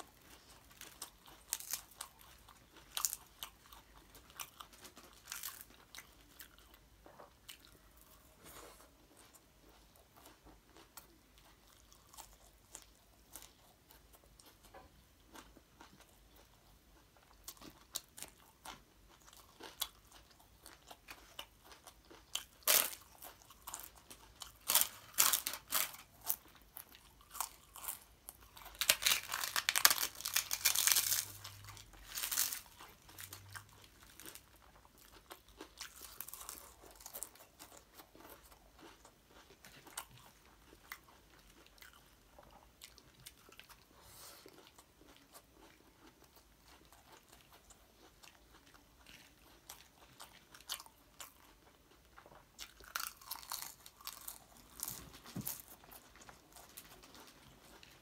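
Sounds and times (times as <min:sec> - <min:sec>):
crisp snack crunching: 0:00.0 - 0:06.8, 0:17.4 - 0:43.8, 0:44.5 - 0:58.0
quiet chewing and mouth sounds: 0:00.0 - 0:58.0.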